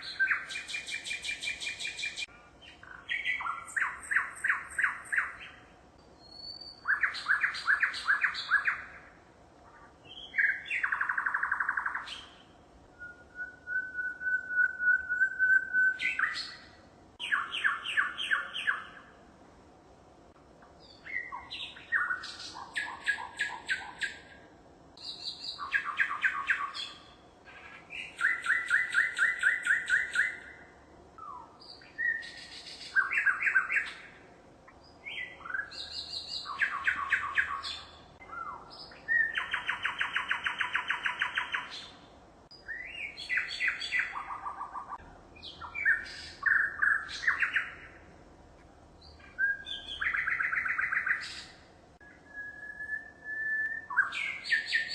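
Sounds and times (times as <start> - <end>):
songbird trilling and chirping: 0.0 - 9.1, 9.7 - 19.1, 20.8 - 24.4, 25.0 - 30.6, 31.2 - 48.0, 49.0 - 54.9.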